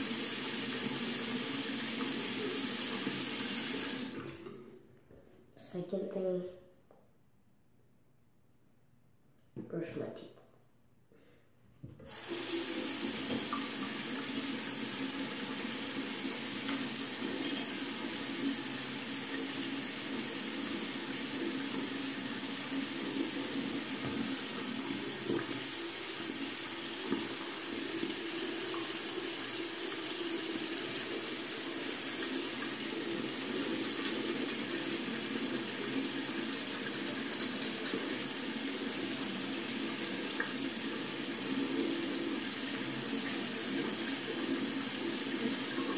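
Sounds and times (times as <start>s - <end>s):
faucet running into sink: 0.0s - 4.6s, 12.0s - 45.9s.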